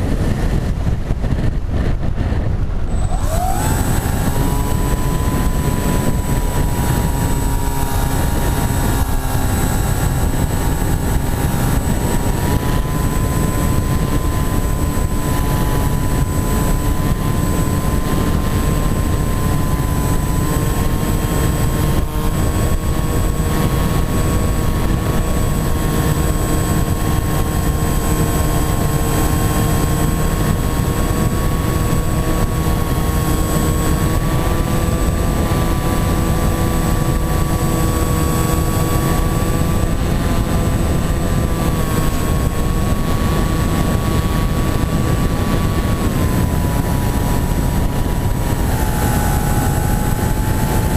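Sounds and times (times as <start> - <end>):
model aircraft motor whine: 0.0 - 50.9
wind rushing over microphone: 0.0 - 50.9.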